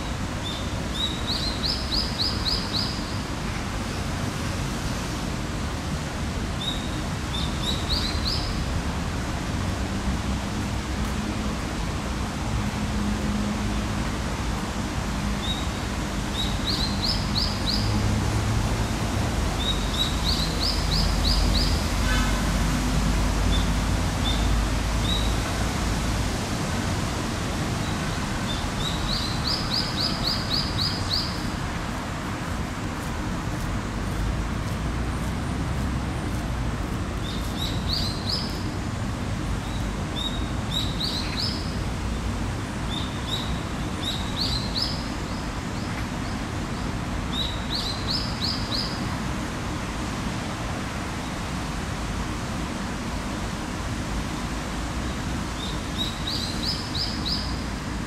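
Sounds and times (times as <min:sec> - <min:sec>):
distant traffic rumble: 0:00.0 - 0:58.0.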